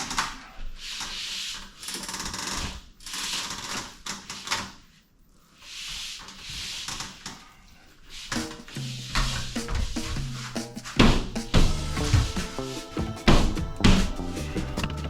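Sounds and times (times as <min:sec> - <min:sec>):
hand tool scraping a surface: 0:00.0 - 0:04.8, 0:05.6 - 0:15.0.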